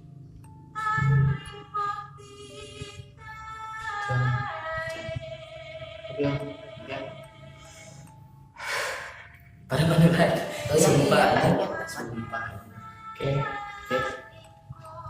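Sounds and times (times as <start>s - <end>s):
slow song with singing voice: 0.7s - 15.0s.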